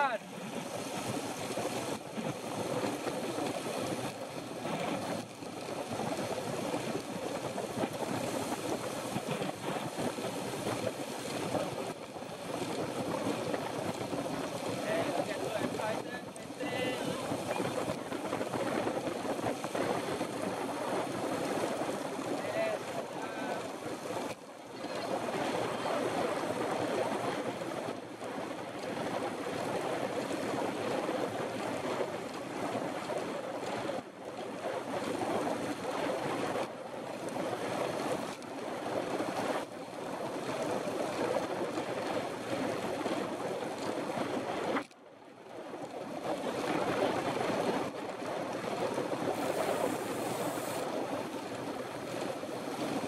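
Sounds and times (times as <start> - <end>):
wind rushing over microphone: 0.0 - 44.9, 45.7 - 53.0.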